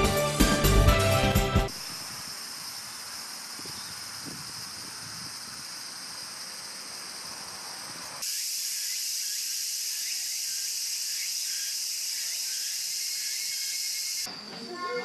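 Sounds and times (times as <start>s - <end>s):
insects chorus: 1.2s - 15.0s.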